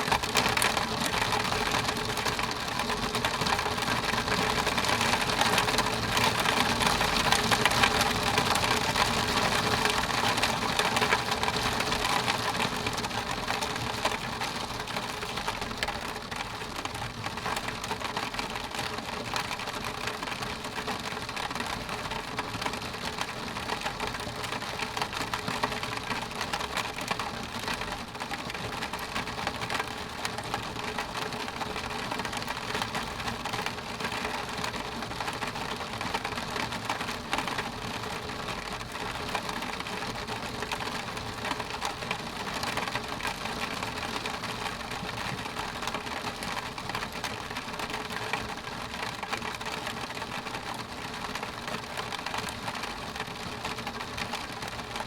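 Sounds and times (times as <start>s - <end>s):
rain ticking on window glass: 0.0s - 55.0s.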